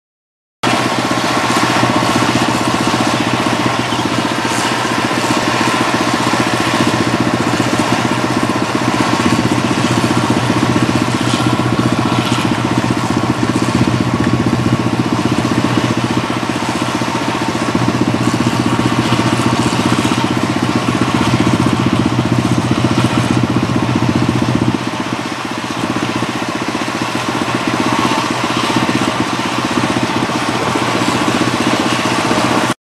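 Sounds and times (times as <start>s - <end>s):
combine harvester engine drone: 0.6s - 32.8s.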